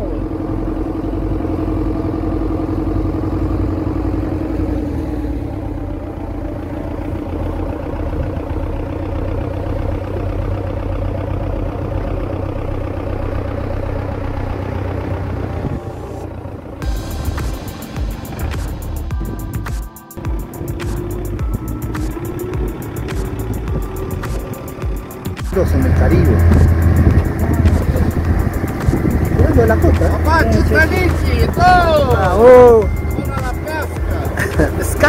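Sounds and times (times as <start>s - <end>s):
small outboard motor running: 0.0s - 35.0s.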